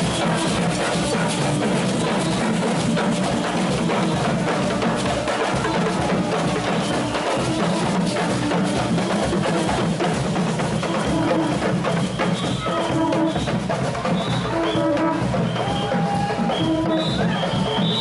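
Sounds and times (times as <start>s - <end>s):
street band drumming: 0.0s - 18.0s.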